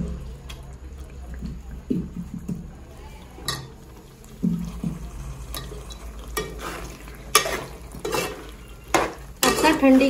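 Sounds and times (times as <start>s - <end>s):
pot being stirred: 1.3s - 10.0s.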